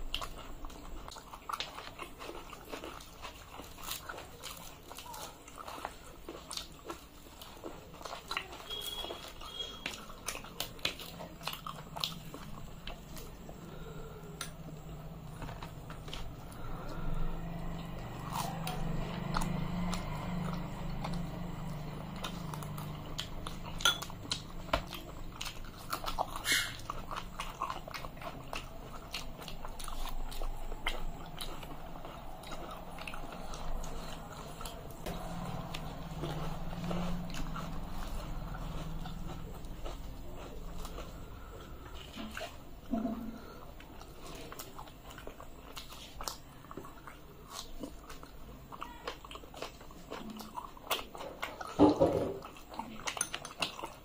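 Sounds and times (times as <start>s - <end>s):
person chewing soft food: 0.0s - 54.0s.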